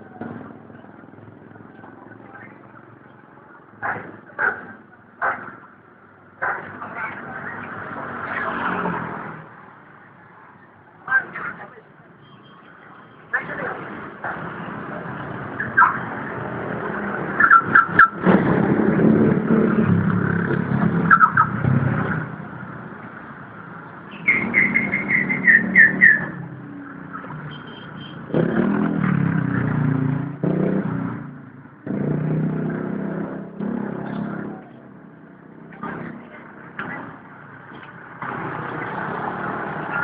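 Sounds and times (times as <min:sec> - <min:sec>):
vehicle engines in street traffic: 0:00.0 - 0:40.0.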